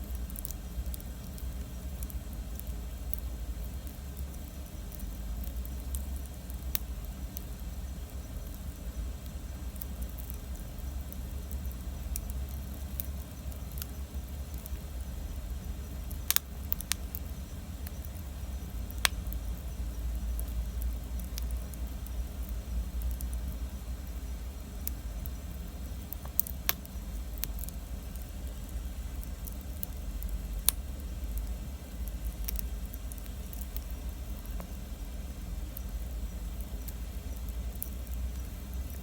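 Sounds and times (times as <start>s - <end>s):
campfire crackling: 0.0s - 39.0s
low rumble of fire: 0.0s - 39.0s.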